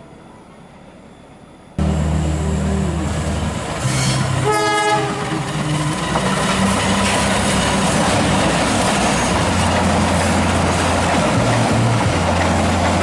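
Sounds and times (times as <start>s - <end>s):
low drone: 1.8s - 13.0s
train wheels rumbling on rails: 1.8s - 13.0s.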